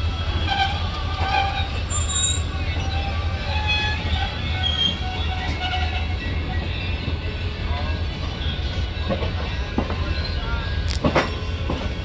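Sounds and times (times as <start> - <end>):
low rumble of railcars: 0.0 - 12.0
train wheels squealing on rails: 0.0 - 12.0.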